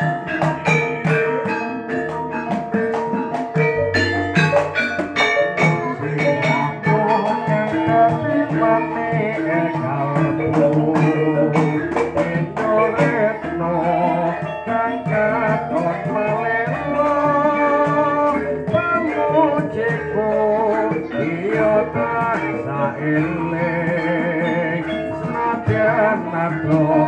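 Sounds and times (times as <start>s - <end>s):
drum strokes: 0.0s - 27.0s
hanging gongs: 0.0s - 27.0s
metallophones: 0.0s - 27.0s
person singing: 0.0s - 27.0s.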